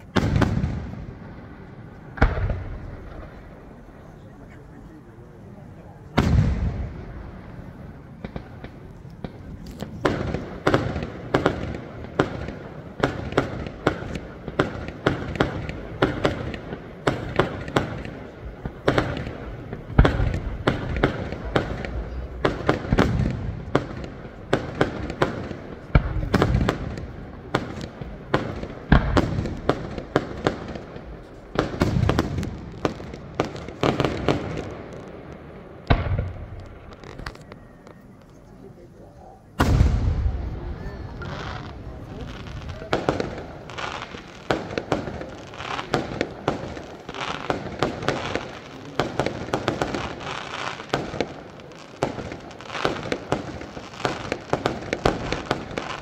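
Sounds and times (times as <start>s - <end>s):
heavy fireworks booms: 0.0s - 37.9s, 38.7s - 56.0s
fireworks bangs and crackles: 0.0s - 56.0s.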